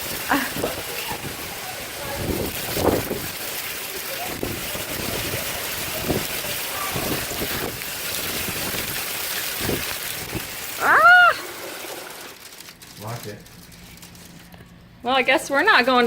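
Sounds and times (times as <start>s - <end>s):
hail falling: 0.0s - 14.2s
wind: 0.0s - 16.0s.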